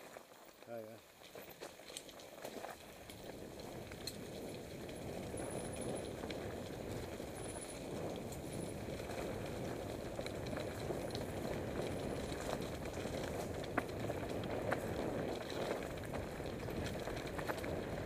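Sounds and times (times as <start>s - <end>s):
bike rattling over bumps: 0.0s - 18.0s
bike tyres rumbling on dirt: 0.0s - 18.0s.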